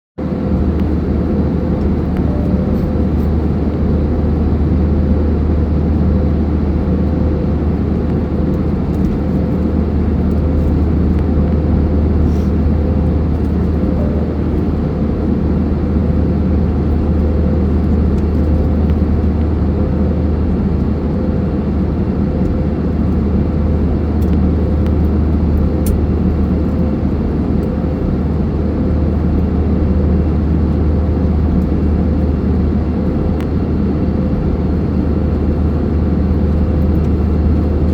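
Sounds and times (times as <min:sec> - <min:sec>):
airliner engines rumbling: 0:00.2 - 0:37.9
faint steady hum: 0:00.3 - 0:37.9.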